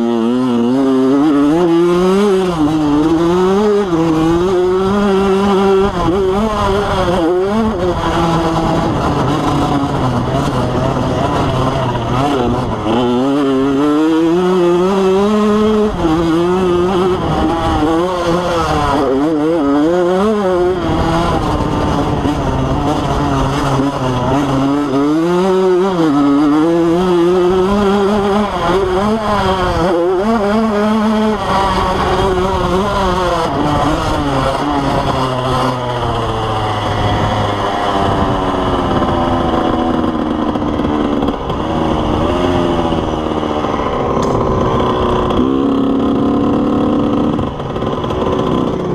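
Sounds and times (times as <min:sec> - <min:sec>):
dirt bike engine racing: 0:00.0 - 0:48.9.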